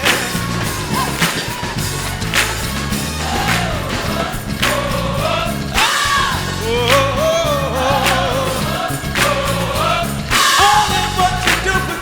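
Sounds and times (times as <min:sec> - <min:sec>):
bass notes: 0:00.0 - 0:12.0
drum hits: 0:00.0 - 0:12.0
gospel choir singing: 0:00.0 - 0:12.0.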